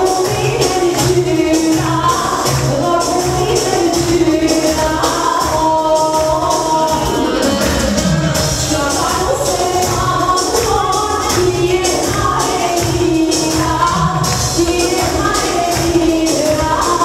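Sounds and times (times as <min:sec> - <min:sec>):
woman singing into microphone: 0:00.0 - 0:17.0.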